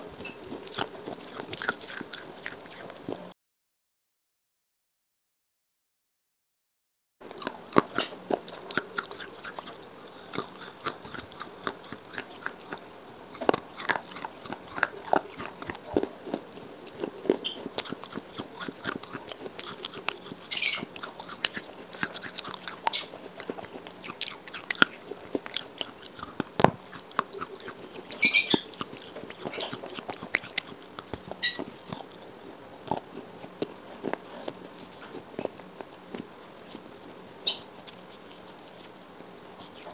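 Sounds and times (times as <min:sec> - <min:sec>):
crunchy chewing: 0:00.0 - 0:03.3, 0:07.2 - 0:39.9.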